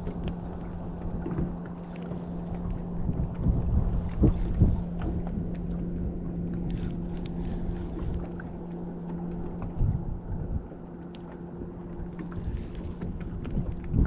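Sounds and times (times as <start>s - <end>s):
boat motor humming: 0.0s - 14.0s
wind rumble on microphone: 0.0s - 14.0s.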